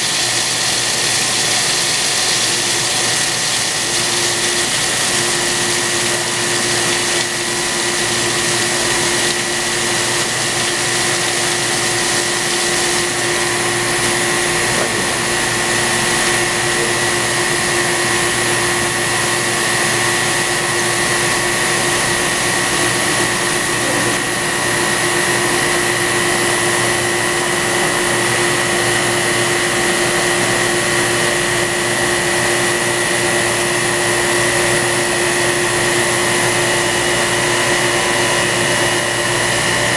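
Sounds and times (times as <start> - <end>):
coolant splashing: 0.0 - 39.9
grinder machine hum: 0.0 - 39.9
grinding wheel whine: 0.0 - 39.9.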